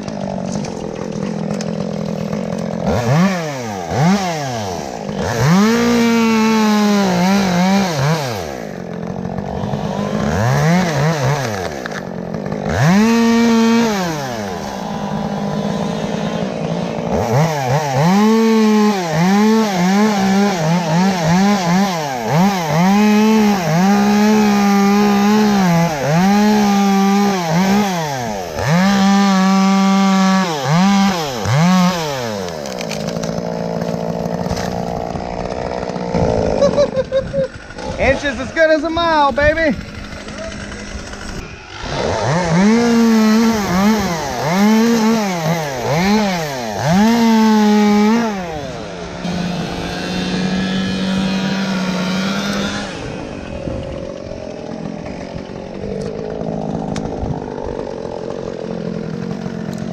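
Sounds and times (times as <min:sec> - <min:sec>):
chainsaw cutting wood: 0:00.0 - 0:59.9
chainsaw engine revving: 0:00.0 - 0:59.9.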